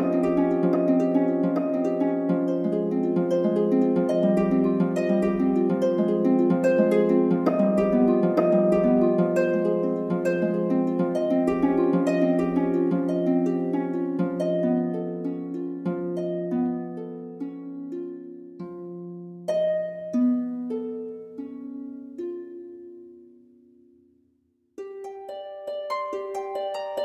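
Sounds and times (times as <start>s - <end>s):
plucked harp notes: 0.0s - 23.9s.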